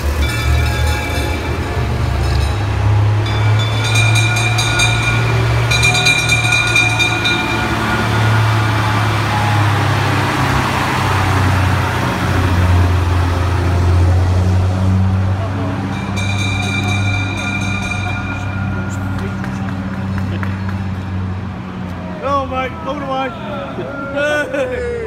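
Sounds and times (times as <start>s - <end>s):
fire bell ringing: 0.0s - 21.4s
fire engines droning past: 0.0s - 25.0s.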